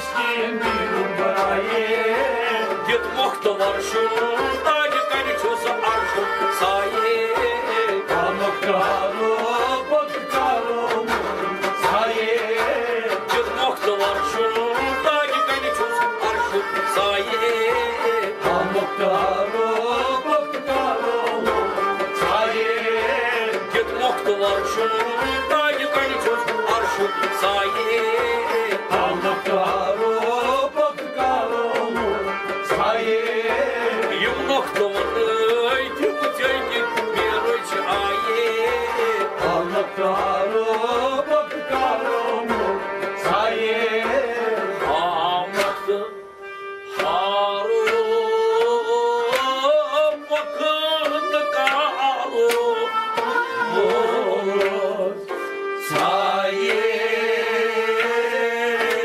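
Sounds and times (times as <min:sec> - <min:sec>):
man singing: 0:00.0 - 0:46.2, 0:46.9 - 0:59.0
string instrument: 0:00.0 - 0:59.0.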